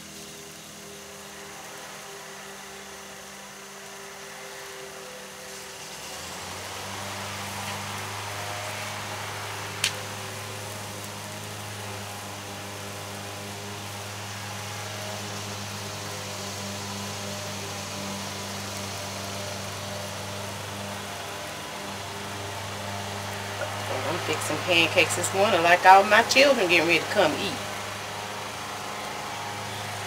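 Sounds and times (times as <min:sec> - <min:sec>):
low machine hum: 0:04.7 - 0:30.0.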